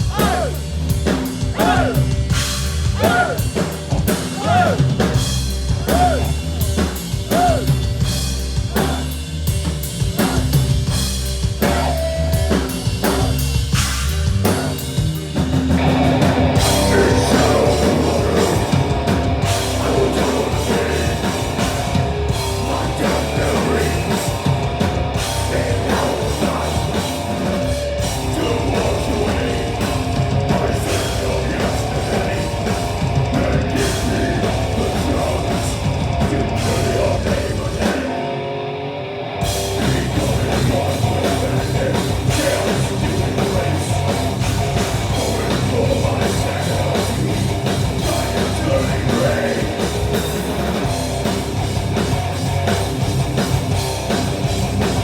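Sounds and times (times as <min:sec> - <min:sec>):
metal band playing live: 0:00.0 - 0:55.0.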